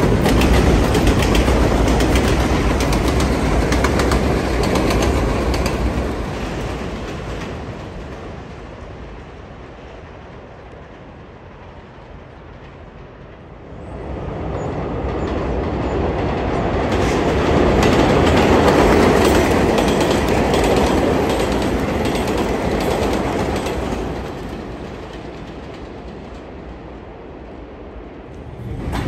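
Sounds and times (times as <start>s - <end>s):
subway train wheels clattering: 0.0s - 29.0s.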